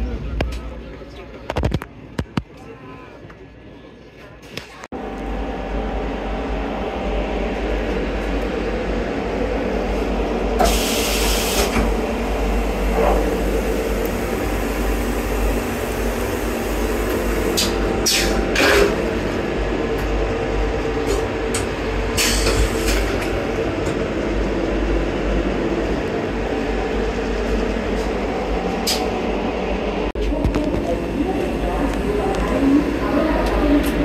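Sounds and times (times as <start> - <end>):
train rumbling and rolling: 0.0 - 34.0.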